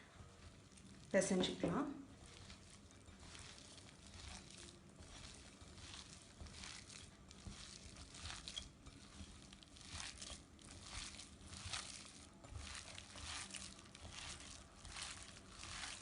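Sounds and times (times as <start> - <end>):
hands kneading minced meat: 0.0 - 16.0.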